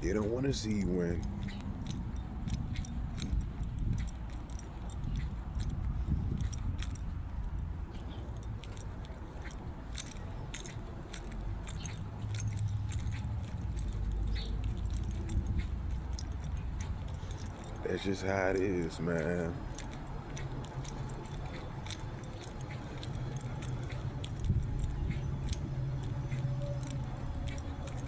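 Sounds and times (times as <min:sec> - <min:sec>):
light metallic jingling: 0:00.0 - 0:28.0
steady low rumble: 0:00.0 - 0:28.0.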